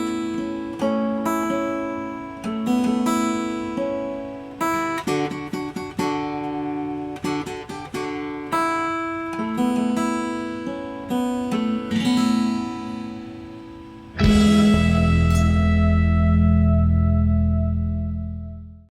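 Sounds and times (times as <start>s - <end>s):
fingerstyle guitar: 0.0s - 18.9s.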